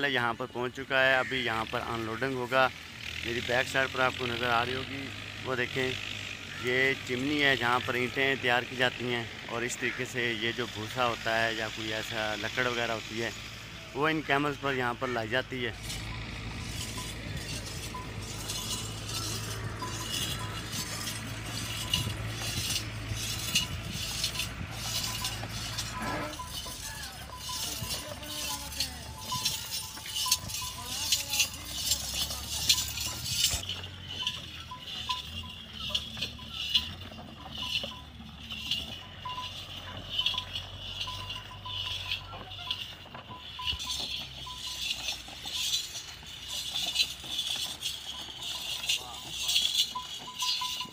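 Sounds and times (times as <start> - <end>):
camel harness bells jingling: 0.0 - 50.9.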